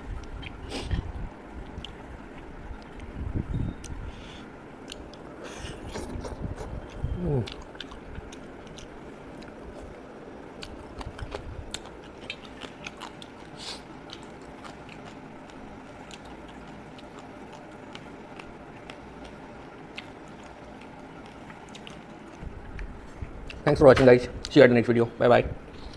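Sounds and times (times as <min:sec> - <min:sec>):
wet chewing and lip smacks: 0:00.1 - 0:04.0, 0:04.8 - 0:23.6.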